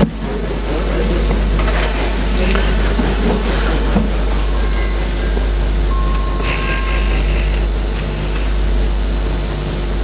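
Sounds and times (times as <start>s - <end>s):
low rumble and hiss of room: 0.0s - 10.0s.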